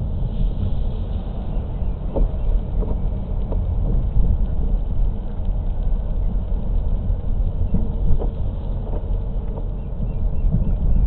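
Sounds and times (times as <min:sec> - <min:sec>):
car driving on wet road: 0:00.0 - 0:10.3.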